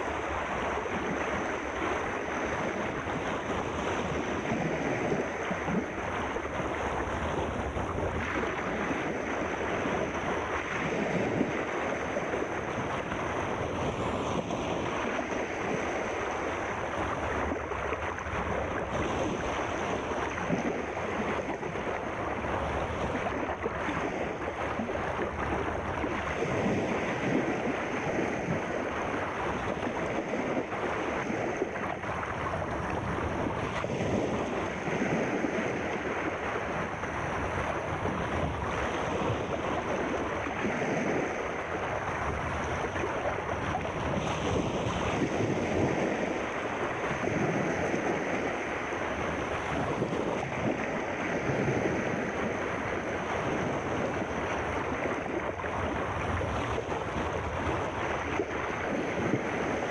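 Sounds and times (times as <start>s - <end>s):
sea waves washing: 0.0s - 59.9s.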